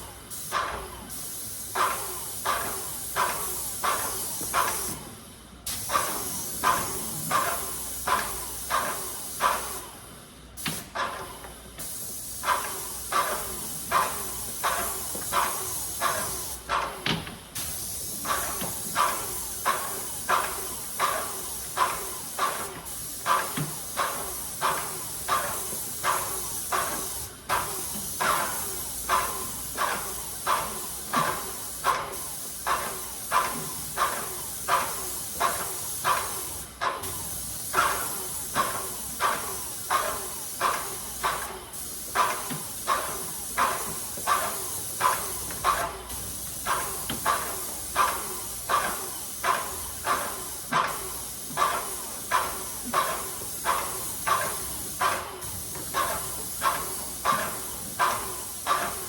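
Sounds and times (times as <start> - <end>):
paint sprayer hissing: 0.0 - 59.0.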